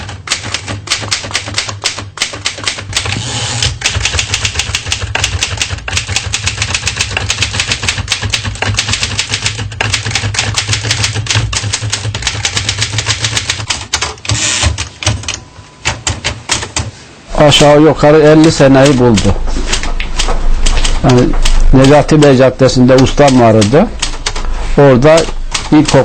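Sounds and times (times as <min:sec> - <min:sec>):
typewriter keys striking: 0:00.0 - 0:16.9, 0:18.2 - 0:26.0.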